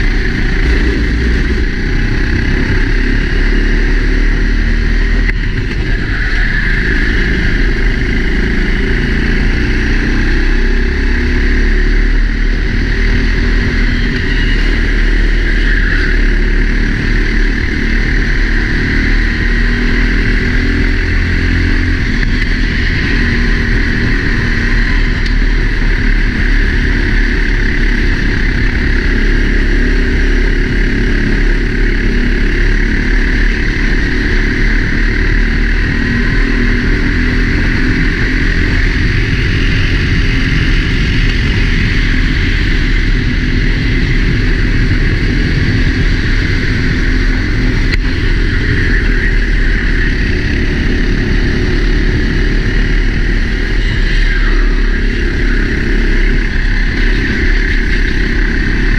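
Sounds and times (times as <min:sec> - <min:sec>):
kart engine running hard: 0:00.0 - 0:58.9.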